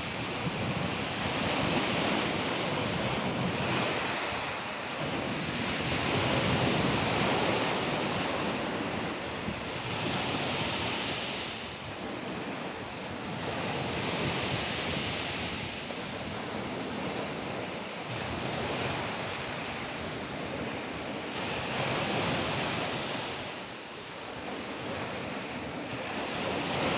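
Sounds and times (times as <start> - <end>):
waves breaking on shore: 0.0 - 26.9.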